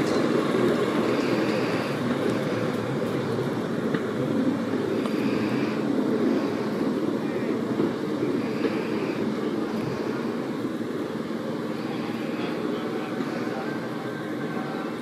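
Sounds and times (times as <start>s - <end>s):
rail vehicle engine humming: 0.0s - 15.0s.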